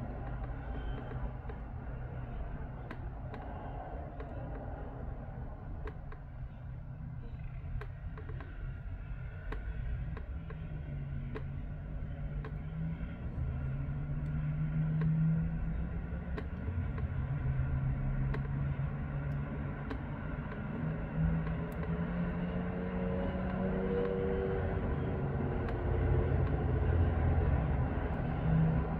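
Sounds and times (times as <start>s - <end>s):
cars and motorcycles passing: 0.0s - 28.9s.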